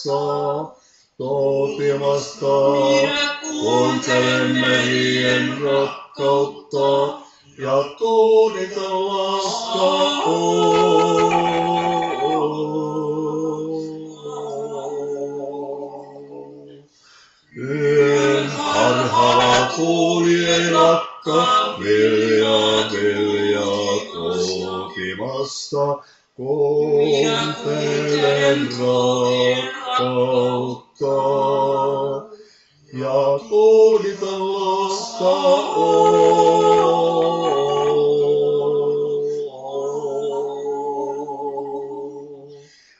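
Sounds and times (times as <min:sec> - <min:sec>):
male vocal quartet singing a cappella: 0:00.0 - 0:42.9.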